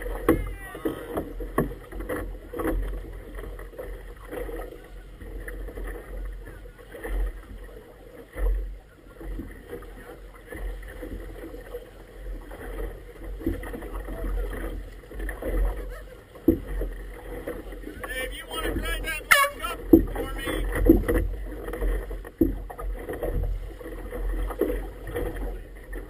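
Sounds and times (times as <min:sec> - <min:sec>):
water lapping against boat: 0:00.0 - 0:26.0.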